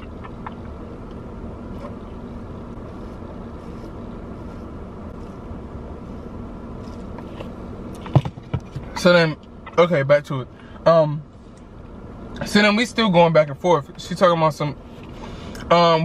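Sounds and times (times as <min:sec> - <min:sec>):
car cabin hum and rush: 0:00.0 - 0:16.0
faint steady drone: 0:00.0 - 0:16.0.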